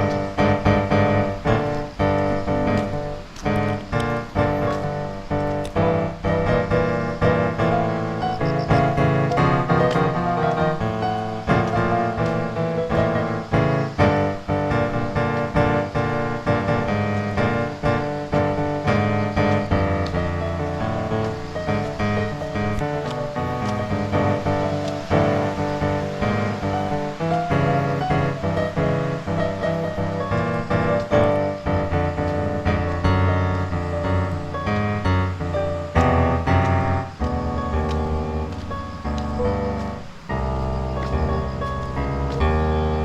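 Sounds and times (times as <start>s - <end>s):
piano chords: 0.0s - 43.0s.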